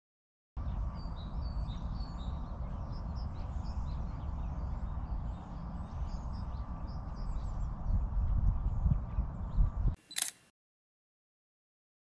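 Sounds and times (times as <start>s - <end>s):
songbirds chirping and twittering: 0.6s - 10.3s.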